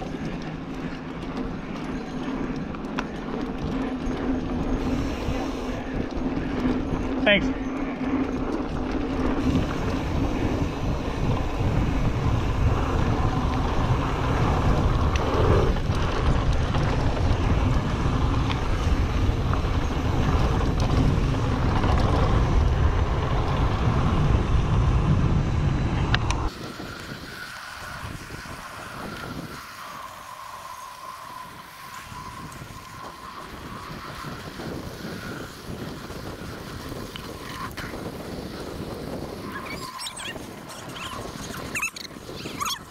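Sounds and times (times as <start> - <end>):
bike tyres rumbling on dirt: 0.0 - 42.9
wind buffeting microphone: 0.0 - 42.9.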